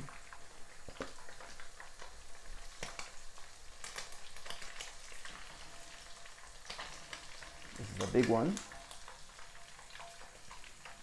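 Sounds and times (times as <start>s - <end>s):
oil sizzling with pops and crackles: 0.0s - 11.0s.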